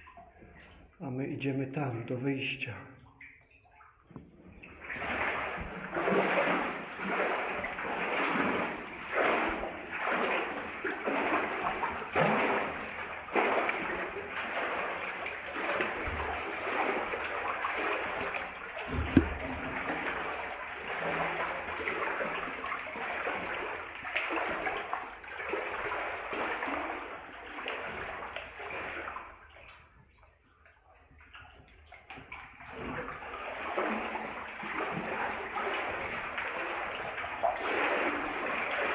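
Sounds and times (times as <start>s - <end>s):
footsteps wading through water: 0.0s - 1.0s, 1.8s - 38.9s.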